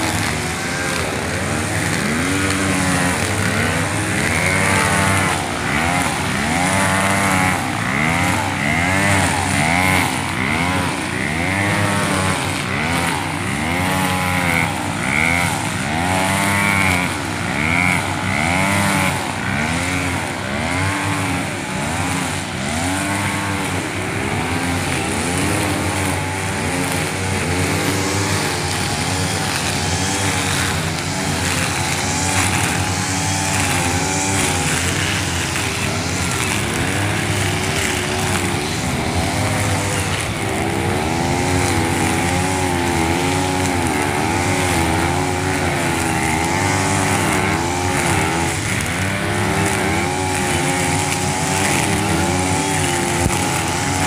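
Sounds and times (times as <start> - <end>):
brush cutter engine revving: 0.0 - 54.0
distant brush cutters: 0.0 - 54.0.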